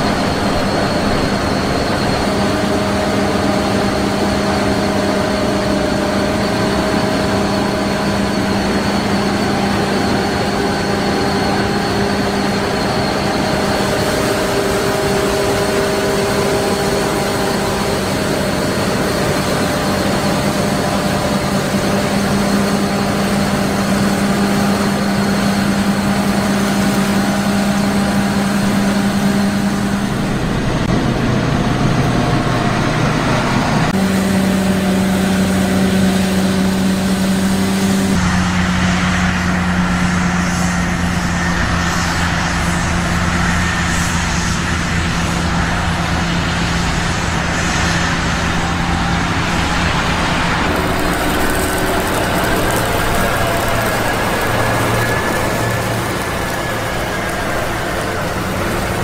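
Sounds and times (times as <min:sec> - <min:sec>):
engine drone: 0:00.0 - 0:59.0
machinery clatter: 0:00.0 - 0:59.0
thin high whine: 0:00.0 - 0:59.0.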